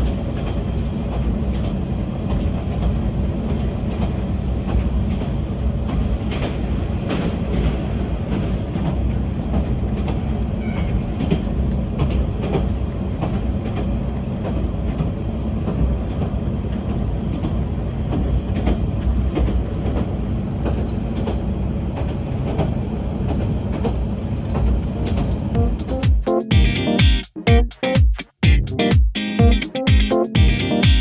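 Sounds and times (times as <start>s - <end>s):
wheel clicks over rail joints: 0.0s - 26.0s
railcar rumble: 0.0s - 27.0s.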